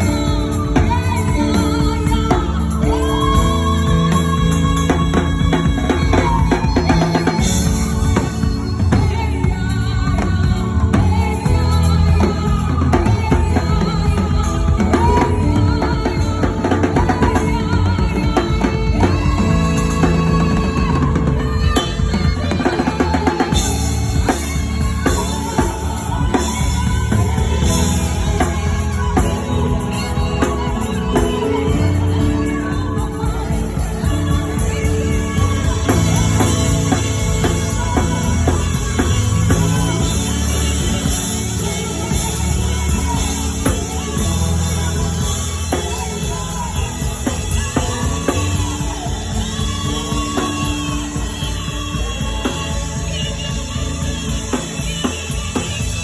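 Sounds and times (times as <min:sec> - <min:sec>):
drum kit playing steady beat: 0:00.0 - 0:56.0
full band playing: 0:00.0 - 0:56.0
voices singing gospel: 0:00.0 - 0:56.0.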